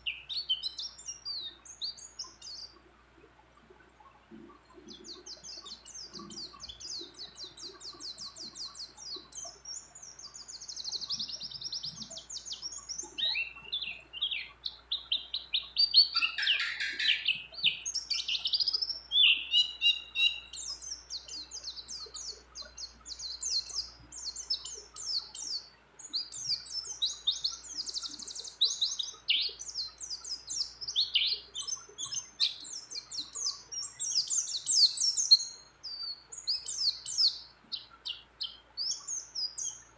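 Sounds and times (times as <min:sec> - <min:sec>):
bird singing trills and chirps: 0:00.0 - 0:39.9.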